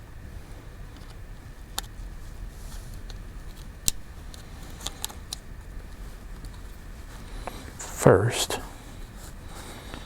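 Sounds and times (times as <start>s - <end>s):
low room rumble: 0.0s - 10.0s.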